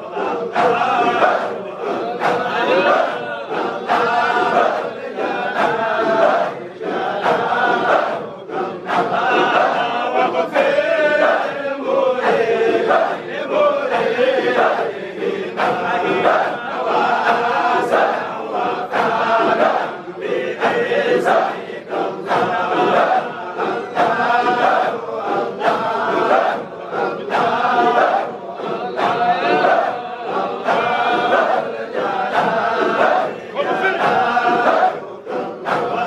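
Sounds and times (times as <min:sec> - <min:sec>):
crowd of men chanting: 0:00.0 - 0:36.0.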